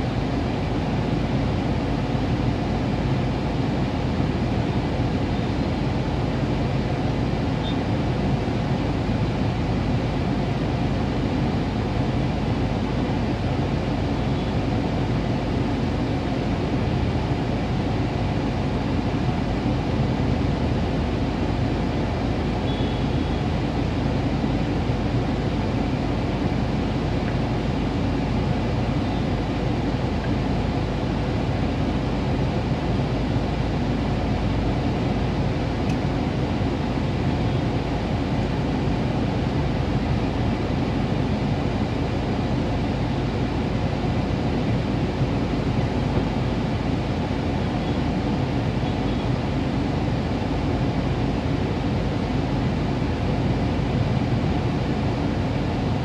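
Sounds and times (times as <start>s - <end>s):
low rumble and hiss in car cabin: 0.0s - 56.0s.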